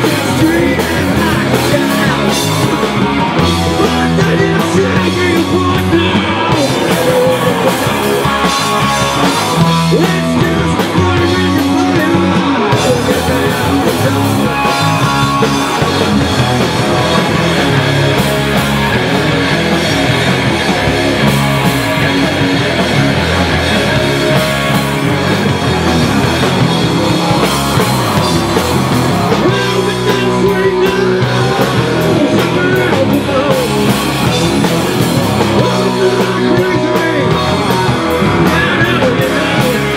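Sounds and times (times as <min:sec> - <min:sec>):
rock band playing loud: 0:00.0 - 0:39.9.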